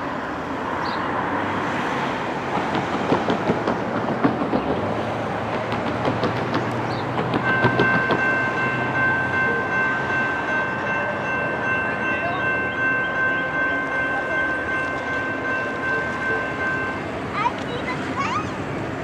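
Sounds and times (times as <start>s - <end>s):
freight train wheels clacking: 2.1s - 19.0s.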